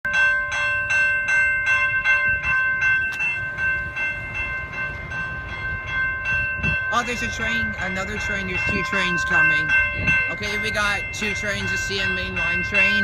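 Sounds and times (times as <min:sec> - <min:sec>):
crossing bell ringing: 0:00.0 - 0:13.0.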